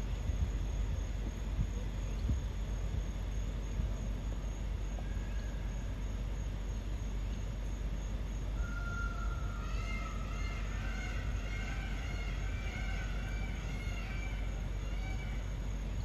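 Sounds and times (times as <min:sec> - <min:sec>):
high-pitched insect chirp: 0:00.0 - 0:16.0
steady low rumble: 0:00.0 - 0:16.0.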